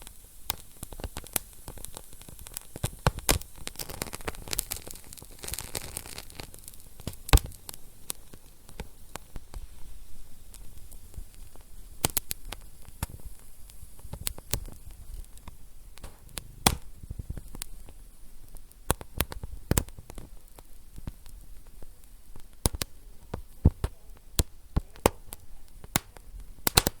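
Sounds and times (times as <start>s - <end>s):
low rumble of burning logs: 0.0s - 27.0s
wood fire crackling and popping: 0.0s - 27.0s.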